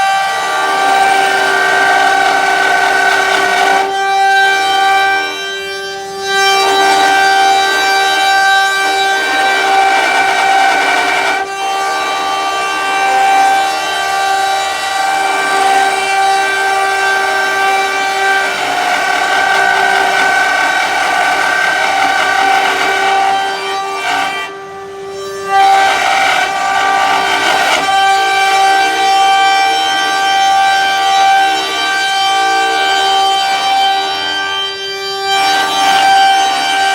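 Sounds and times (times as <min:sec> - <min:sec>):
machining wood noise: 0:00.0 - 0:04.9, 0:06.6 - 0:34.2, 0:35.3 - 0:36.9
router spindles whining: 0:00.0 - 0:36.9.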